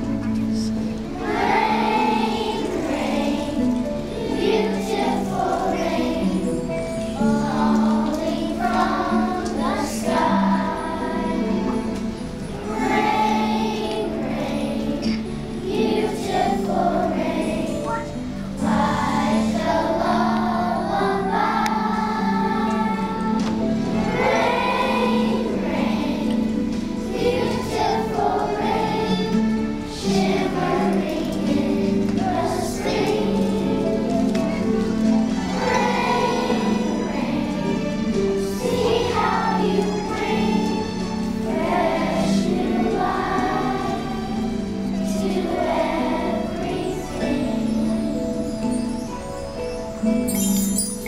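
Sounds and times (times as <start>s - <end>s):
children's choir singing: 0.0s - 51.0s
musical accompaniment: 0.0s - 51.0s.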